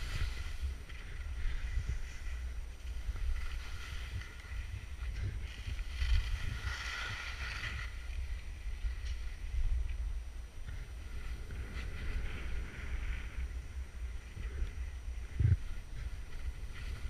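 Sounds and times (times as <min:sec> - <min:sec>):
skis sliding over snow: 0:00.0 - 0:10.1, 0:10.7 - 0:17.0
wind rumbling on microphone: 0:00.0 - 0:17.0.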